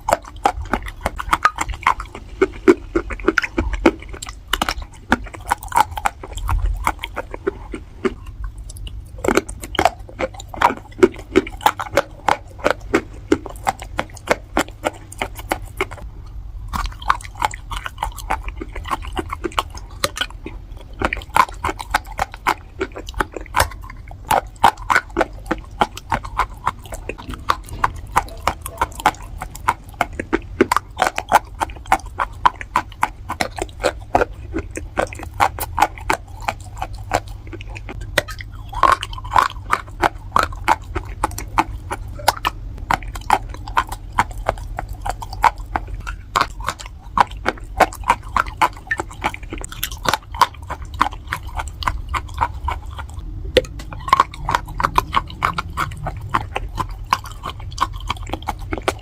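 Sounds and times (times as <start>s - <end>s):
crunching of baked clay being chewed: 0.0s - 59.0s.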